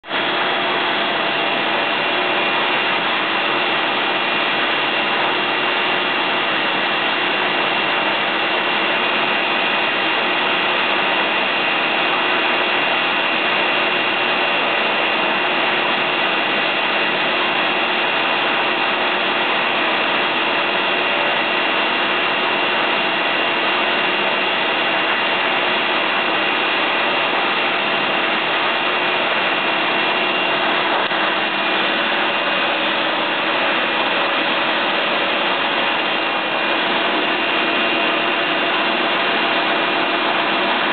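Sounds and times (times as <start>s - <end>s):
water tunnel whir and hiss: 0.1s - 40.9s.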